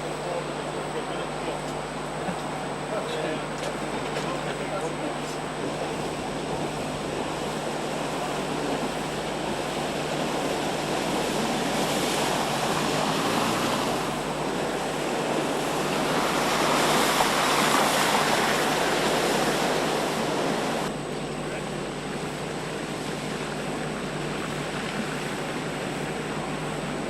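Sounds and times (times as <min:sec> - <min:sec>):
rough water rushing: 0:00.0 - 0:27.0
wind: 0:00.0 - 0:27.0.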